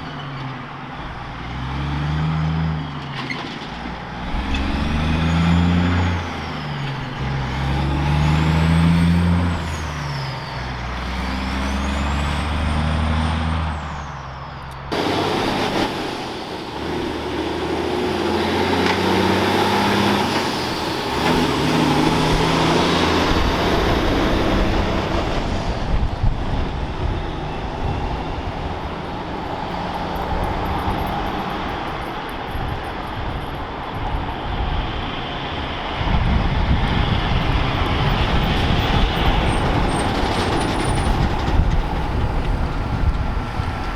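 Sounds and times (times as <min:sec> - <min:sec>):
diesel truck engine: 0:00.0 - 0:43.9
road noise: 0:00.0 - 0:43.9.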